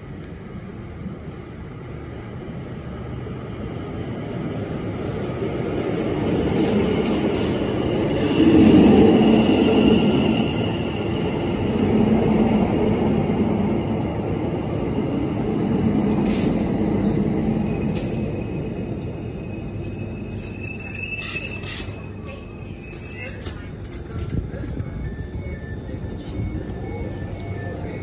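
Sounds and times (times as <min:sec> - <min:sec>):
train wheels rumbling on rails: 0:00.0 - 0:28.0
train high whine: 0:05.0 - 0:28.0.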